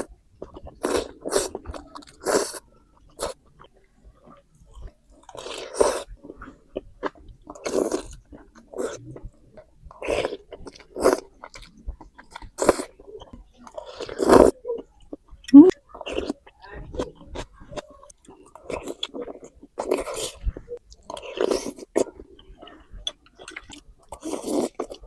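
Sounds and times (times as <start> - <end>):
chewing and biting noodles: 0.0 - 3.7, 4.3 - 15.2, 18.1 - 25.0.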